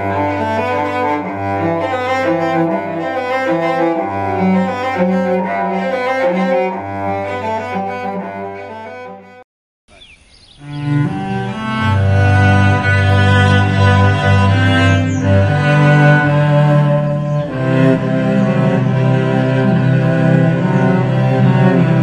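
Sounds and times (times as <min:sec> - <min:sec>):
bowed cello music: 0:00.0 - 0:09.4, 0:10.6 - 0:22.0.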